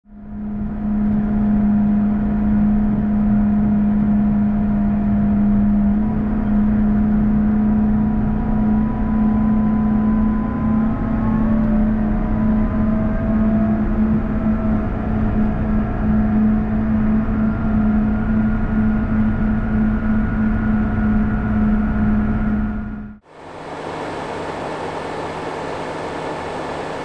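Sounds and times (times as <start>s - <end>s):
tractor engine drone in cab: 0.0s - 27.0s
whining tones: 0.1s - 27.0s.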